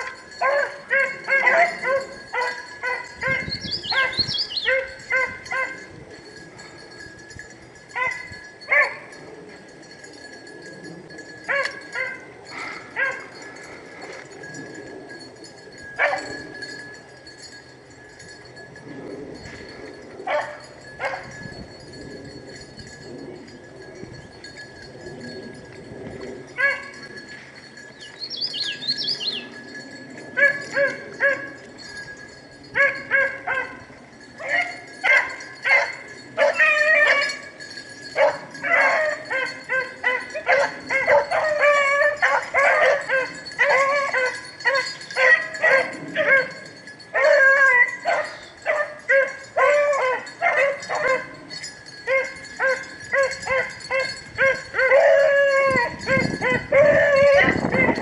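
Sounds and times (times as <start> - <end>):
hounds baying in chorus: 0.0 - 16.8, 18.8 - 21.4, 26.5 - 31.8, 32.7 - 58.0.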